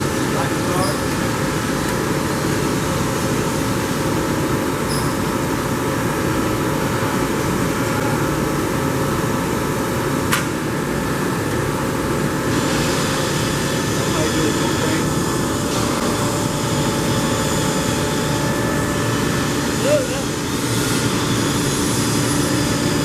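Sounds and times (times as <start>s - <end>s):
boring mill humming and whirring: 0.0s - 23.0s.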